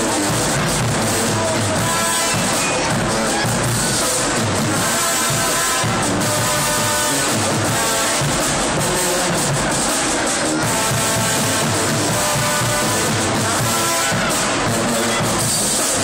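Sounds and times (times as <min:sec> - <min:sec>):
brass instruments playing: 0:00.0 - 0:16.0
steady drumming: 0:00.0 - 0:16.0.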